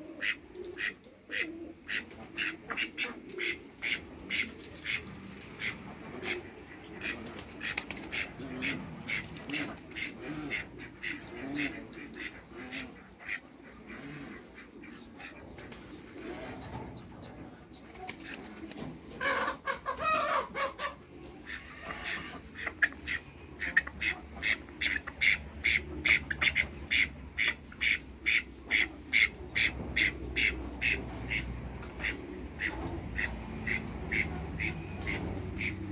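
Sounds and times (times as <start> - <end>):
ducks quacking: 0.0 - 35.9.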